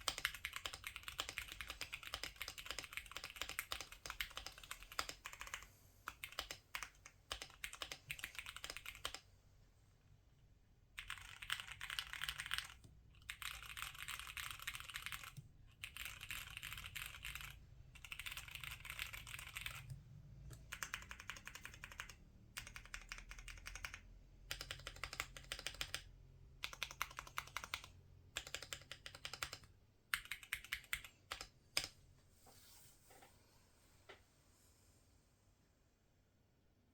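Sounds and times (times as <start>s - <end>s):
mechanical keyboard typing: 0.0s - 9.2s, 11.0s - 32.0s.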